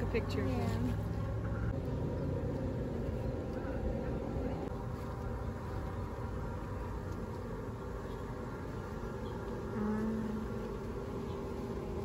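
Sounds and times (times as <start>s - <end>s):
faint hum: 0.0s - 12.0s
low outdoor rumble: 0.0s - 12.0s.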